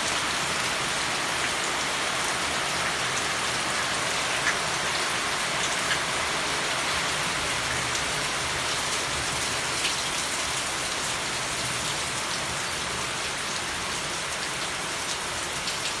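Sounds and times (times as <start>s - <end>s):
raindrops ticking on surfaces: 0.0s - 16.0s.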